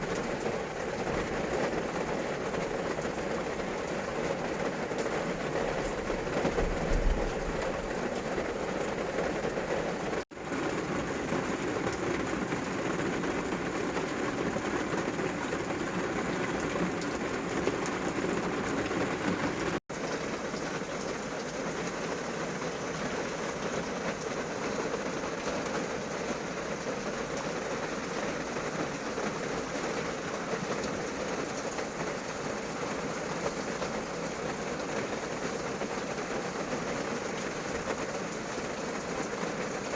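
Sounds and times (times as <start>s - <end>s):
heavy rain on vehicle roof: 0.0s - 39.9s.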